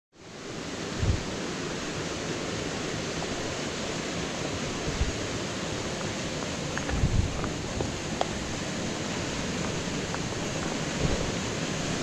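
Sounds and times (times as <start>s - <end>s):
waterfall rushing: 0.2s - 12.0s.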